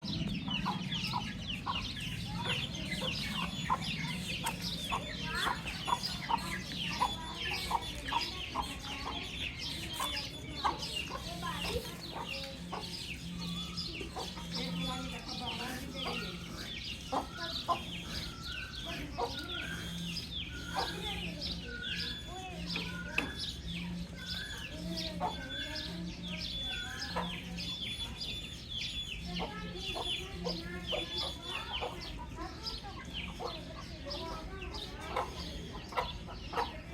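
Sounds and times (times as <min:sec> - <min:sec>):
baby chicks peeping: 0:00.0 - 0:36.9.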